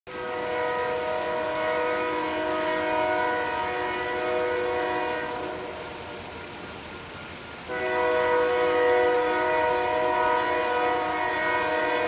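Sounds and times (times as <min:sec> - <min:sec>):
locomotive air horn blast: 0:00.1 - 0:06.1, 0:07.7 - 0:12.0.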